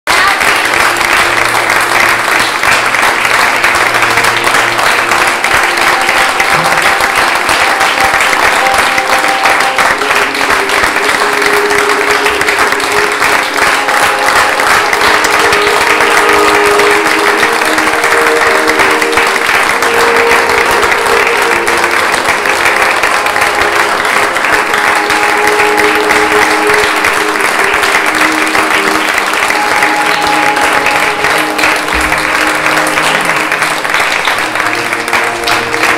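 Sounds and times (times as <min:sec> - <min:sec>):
audience applauding: 0:00.0 - 0:35.9
music with held notes: 0:00.1 - 0:35.9.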